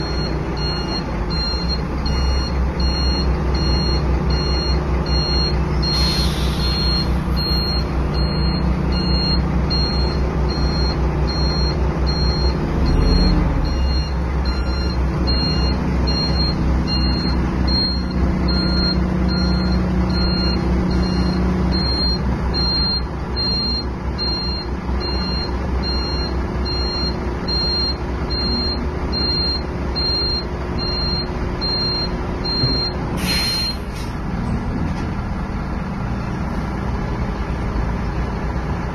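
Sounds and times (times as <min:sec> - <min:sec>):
reversing alarm beeping: 0:00.0 - 0:34.0
diesel engine running: 0:00.0 - 0:38.9.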